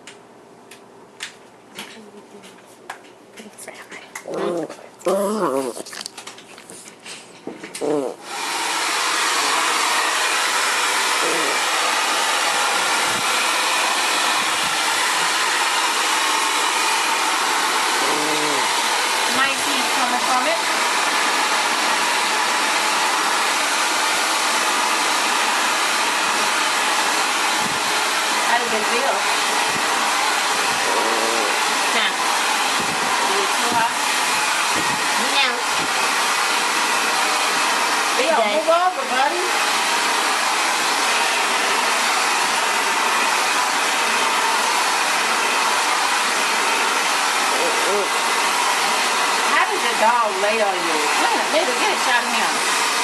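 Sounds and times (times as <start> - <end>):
hair dryer blowing: 7.9 - 53.0.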